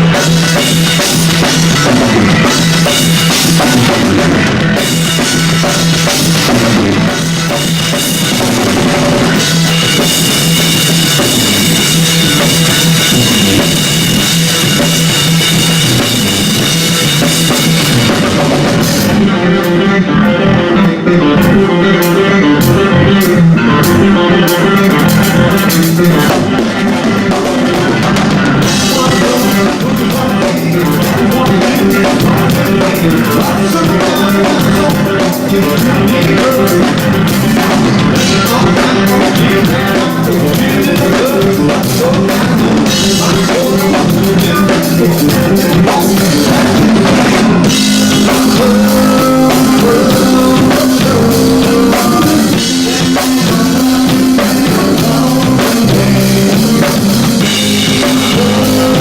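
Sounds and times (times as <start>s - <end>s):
drum kit beat: 0.0s - 19.8s, 20.4s - 59.0s
rock band playing live: 0.0s - 59.0s.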